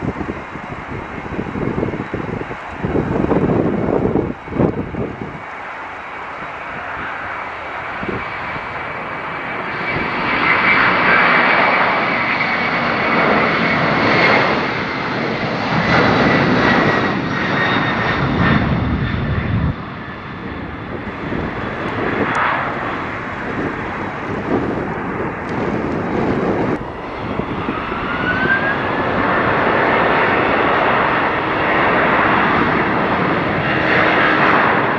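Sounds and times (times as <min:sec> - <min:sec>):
high jet whine falling in pitch: 0:00.0 - 0:34.9
jet engines roaring: 0:00.0 - 0:34.9.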